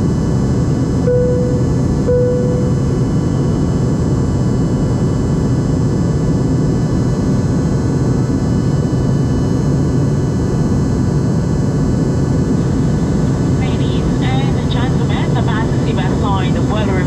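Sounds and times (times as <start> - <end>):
airliner cabin engine drone: 0.0 - 17.0
faint steady hum: 0.0 - 17.0.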